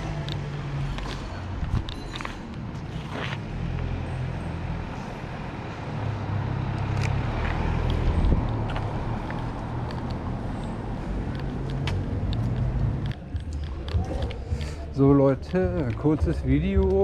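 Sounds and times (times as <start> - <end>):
low traffic hum: 0.0 - 17.0.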